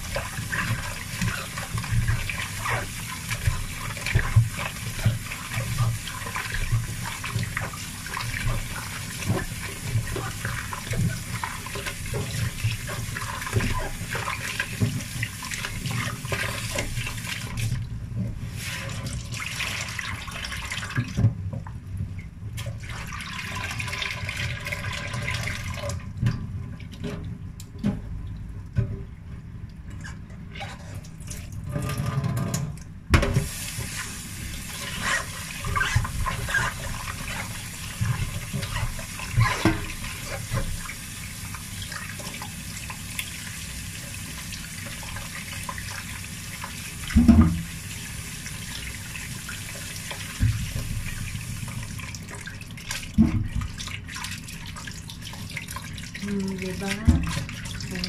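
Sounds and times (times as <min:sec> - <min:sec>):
tap water running into metal bowl: 0:00.0 - 0:21.7, 0:32.6 - 0:58.0.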